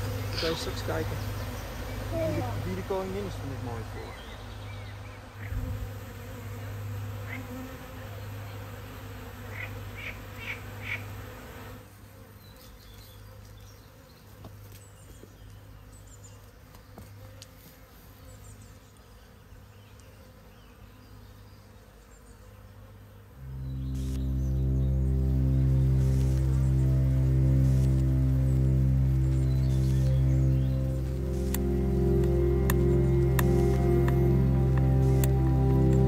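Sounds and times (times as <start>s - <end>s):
bee swarm buzzing: 0.0s - 36.0s.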